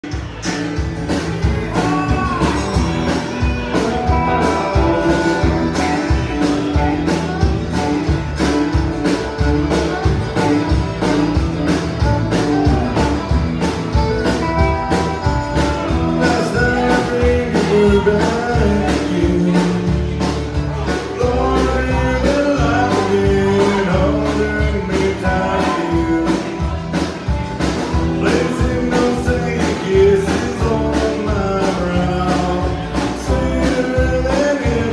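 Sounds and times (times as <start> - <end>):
acoustic guitar: 0.0 - 34.9
drums: 0.0 - 34.9
electric guitar: 0.0 - 34.9
fiddle: 0.1 - 34.9.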